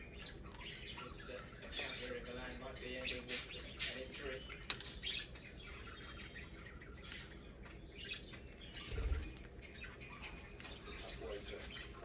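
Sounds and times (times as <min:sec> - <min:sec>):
birds pecking seeds: 0:00.0 - 0:12.0
soft bird chirps: 0:00.0 - 0:12.0.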